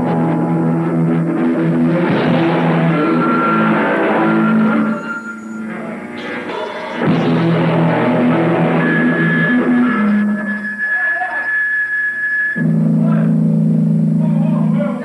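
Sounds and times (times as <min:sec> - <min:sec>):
distorted electric guitar chords: 0:00.0 - 0:15.0
high steady tone: 0:00.0 - 0:15.0.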